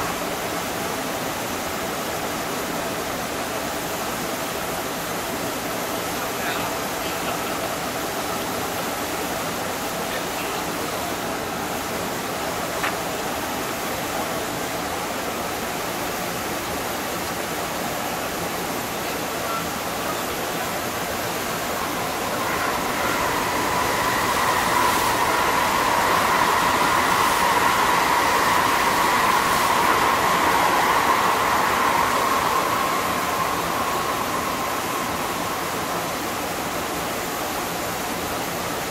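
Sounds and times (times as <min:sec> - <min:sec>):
electric train whine: 0:00.0 - 0:38.9
outdoor hiss: 0:00.0 - 0:38.9.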